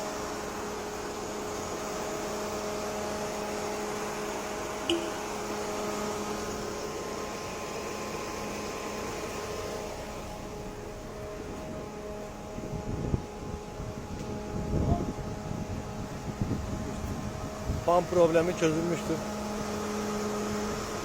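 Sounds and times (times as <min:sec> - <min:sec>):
radiator fan humming: 0:00.0 - 0:21.0.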